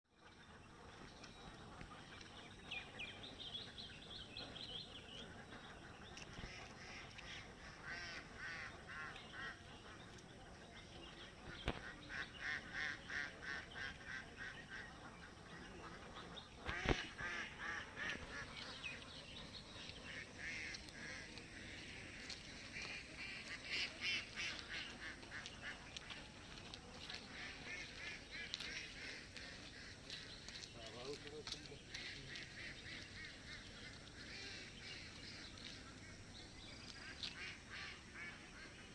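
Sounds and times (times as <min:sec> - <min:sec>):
birds chirping: 0:00.1 - 0:38.9
ducks quacking: 0:00.2 - 0:38.9.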